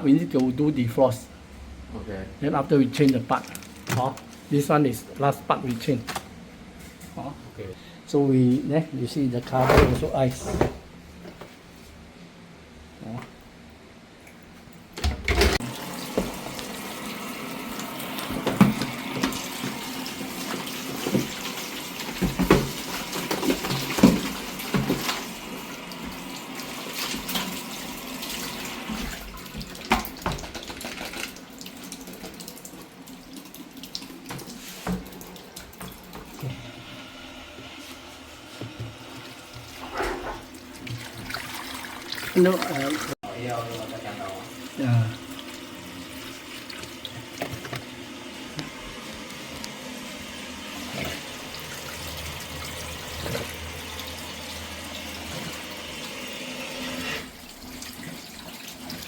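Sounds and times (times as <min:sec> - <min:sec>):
water running: 0:02.0 - 0:06.2, 0:14.3 - 0:59.0.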